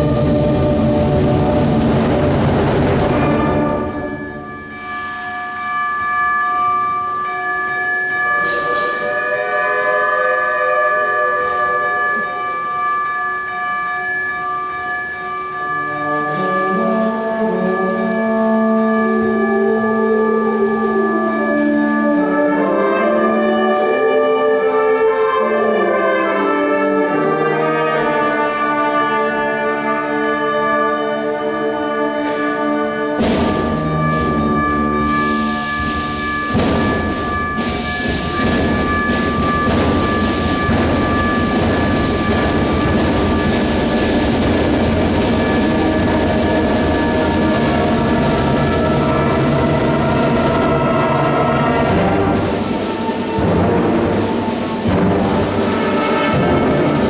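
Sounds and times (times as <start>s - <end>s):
concert band sustained chords: 0.0s - 57.0s
percussion rushing train noise: 0.0s - 57.0s.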